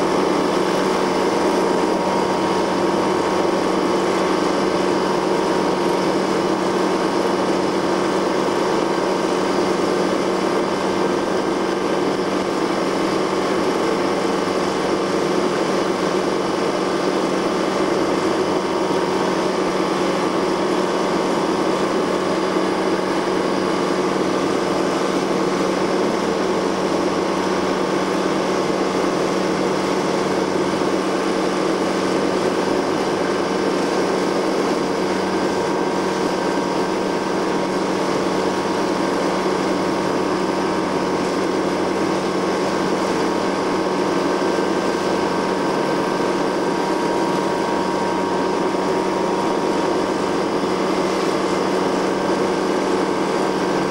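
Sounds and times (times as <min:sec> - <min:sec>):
motorboat engine droning: 0:00.0 - 0:53.9
rushing water: 0:00.0 - 0:53.9.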